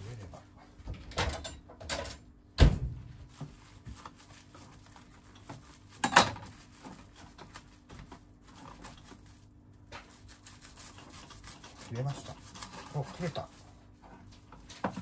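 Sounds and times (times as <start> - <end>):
plastic wrap rustling: 2.9 - 15.0.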